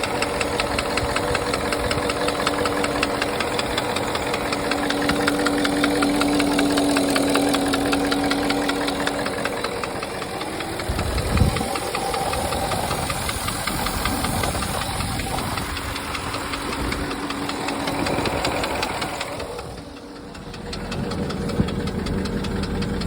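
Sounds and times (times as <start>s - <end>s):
engine running with knocking tick: 0.0s - 23.0s.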